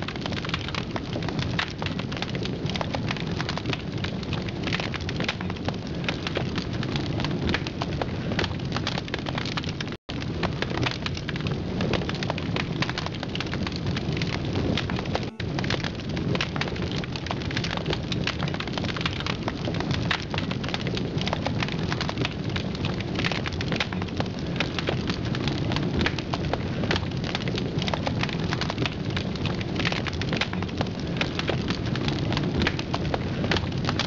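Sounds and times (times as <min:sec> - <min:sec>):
dense crackling and hiss: 0:00.0 - 0:34.0.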